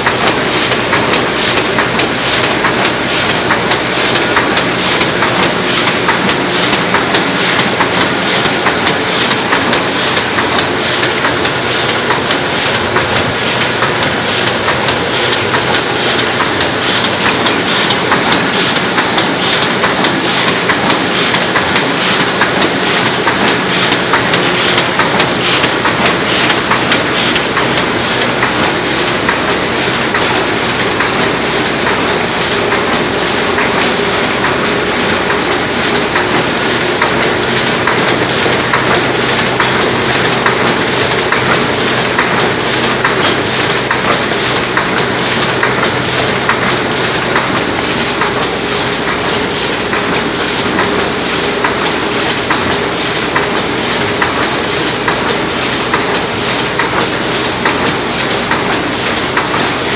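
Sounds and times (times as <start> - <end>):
printing press clattering: 0.0 - 59.9.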